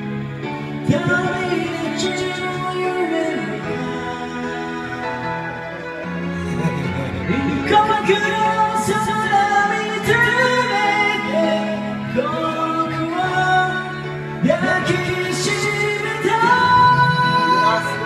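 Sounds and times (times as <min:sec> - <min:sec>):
karaoke backing track: 0:00.0 - 0:18.0
person singing: 0:00.0 - 0:18.0.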